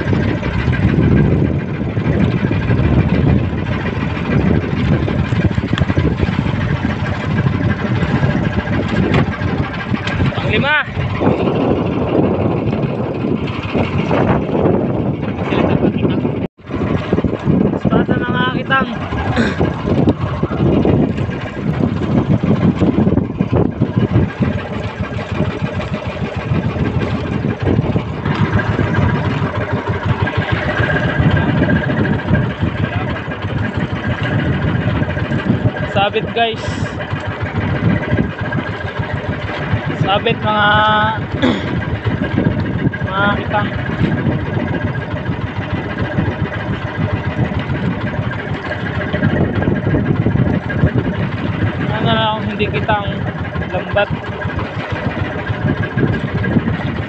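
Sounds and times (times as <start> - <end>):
boat engine idling: 0.0 - 57.0.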